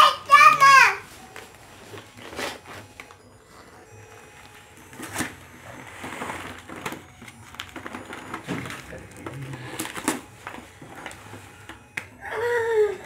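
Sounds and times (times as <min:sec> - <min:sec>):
wrapping paper rustling and crinkling: 0:00.6 - 0:13.0.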